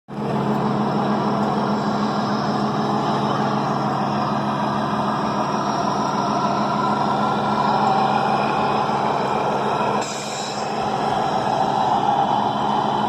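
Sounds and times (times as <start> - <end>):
engine-like drone: 0.1 - 13.0.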